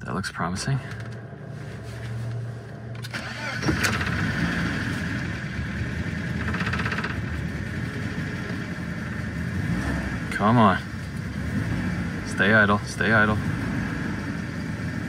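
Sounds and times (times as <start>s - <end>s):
car engine running: 0.0s - 15.0s
car engine cranking: 2.3s - 15.0s.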